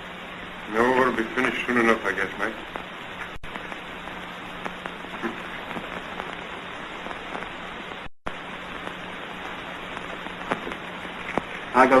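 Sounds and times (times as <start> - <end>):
film soundtrack hiss and crackle: 0.0 - 12.0
steady low hum: 0.0 - 12.0.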